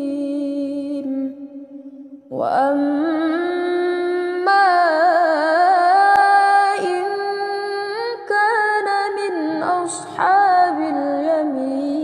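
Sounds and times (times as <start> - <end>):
woman reciting melodically: 0.0 - 1.6, 2.3 - 12.0.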